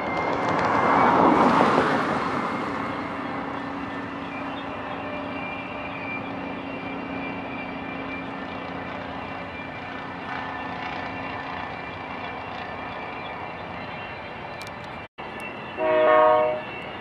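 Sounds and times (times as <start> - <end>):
distant freight train rolling: 0.0 - 17.0.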